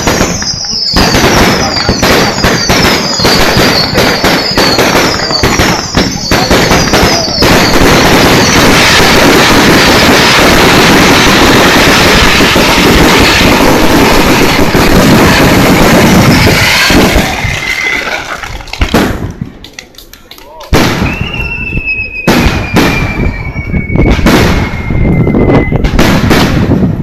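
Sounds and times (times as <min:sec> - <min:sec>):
fireworks whistles: 0:00.0 - 0:19.3, 0:20.8 - 0:27.0
fireworks bangs and crackles: 0:00.0 - 0:27.0.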